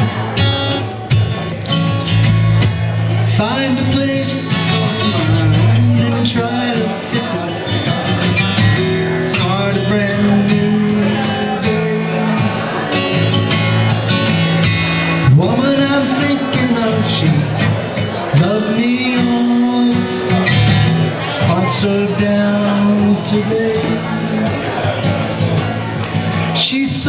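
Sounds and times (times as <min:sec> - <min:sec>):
acoustic guitar strumming: 0:00.0 - 0:27.0
man singing: 0:02.8 - 0:13.6, 0:15.0 - 0:27.0.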